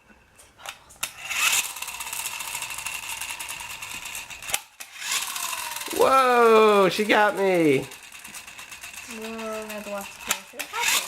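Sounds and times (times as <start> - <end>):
small motor whirring: 1.0 - 11.0.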